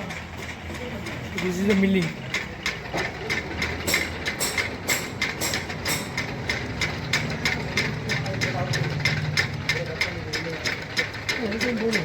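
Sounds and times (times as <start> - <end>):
milling cutter ticking: 0.0 - 12.0.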